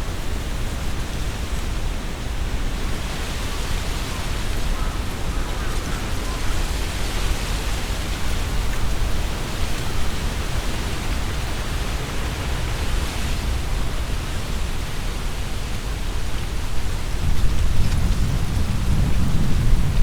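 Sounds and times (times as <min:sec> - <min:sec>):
strong wind through trees: 0:00.0 - 0:20.0.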